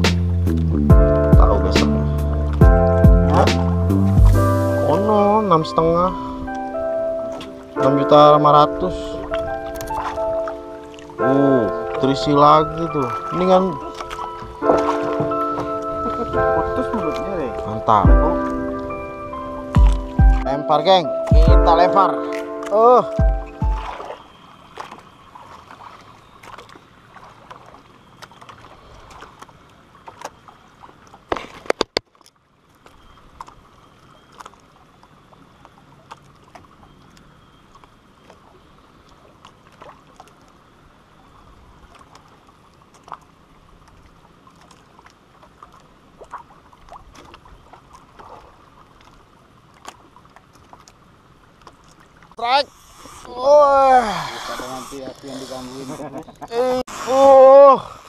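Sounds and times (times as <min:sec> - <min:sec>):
boat and tackle clicks: 0:00.0 - 0:04.4, 0:07.3 - 0:58.0
water lapping against boat: 0:00.0 - 0:58.0.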